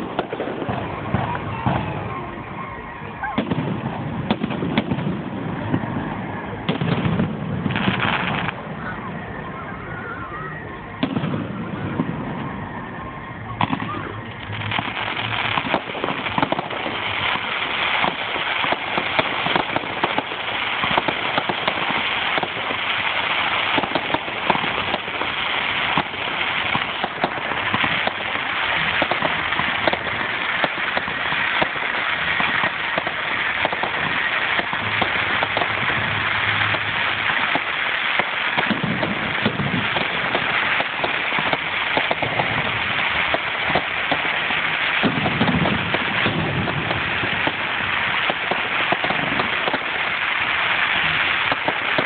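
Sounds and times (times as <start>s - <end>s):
fireworks crackling: 0.0s - 52.0s.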